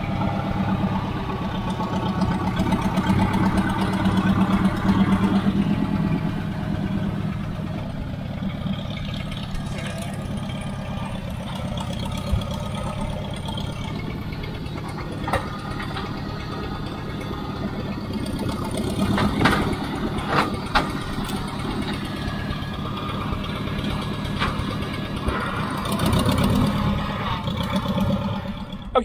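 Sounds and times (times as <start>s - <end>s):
loader engine idling: 0.0s - 29.0s.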